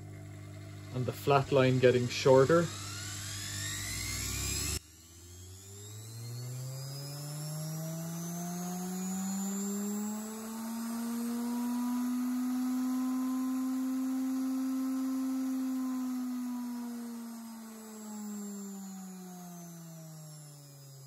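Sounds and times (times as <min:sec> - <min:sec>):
motor whine rising: 0:00.0 - 0:21.0.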